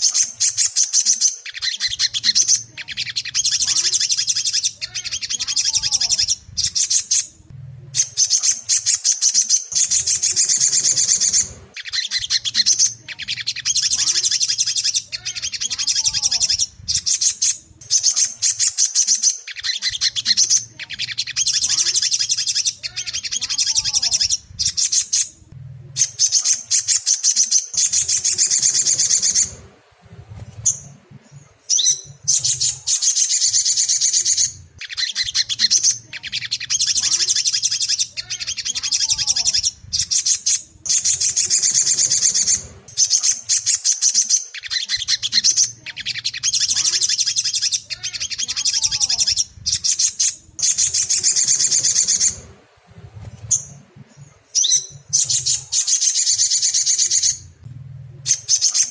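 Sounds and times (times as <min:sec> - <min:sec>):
bird twittering song: 0:00.0 - 0:58.9.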